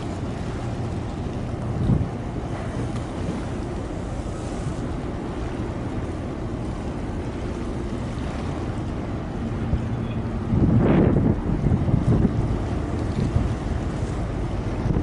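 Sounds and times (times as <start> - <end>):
moving water: 0.0 - 15.0
ship engine rumble: 0.0 - 15.0
wind buffeting microphone: 0.0 - 15.0.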